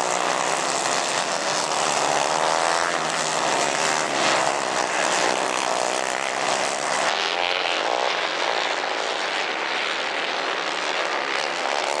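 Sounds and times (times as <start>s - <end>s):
kart engines buzzing at high revs: 0.0s - 12.0s.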